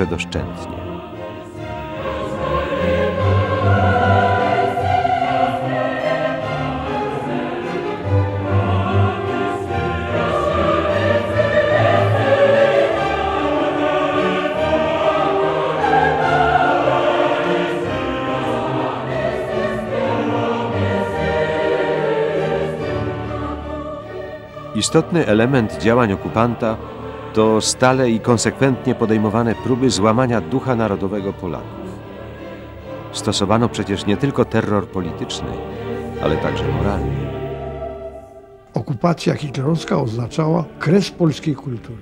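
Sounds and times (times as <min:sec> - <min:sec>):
choir singing held notes: 0:00.0 - 0:42.0
orchestral accompaniment: 0:00.0 - 0:42.0.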